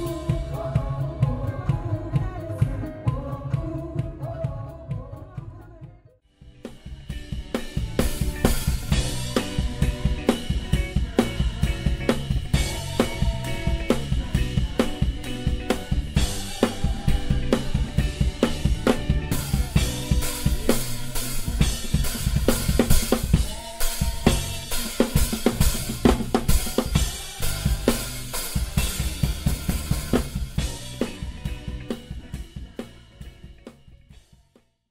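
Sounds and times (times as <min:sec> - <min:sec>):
drum kit fast groove: 0:00.0 - 0:34.6.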